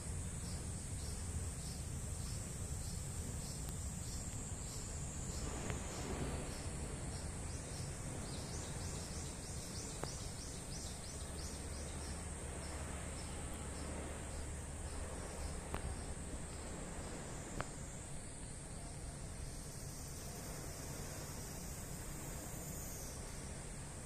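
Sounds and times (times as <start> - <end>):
high-pitched insect drone: 0.4 - 24.0.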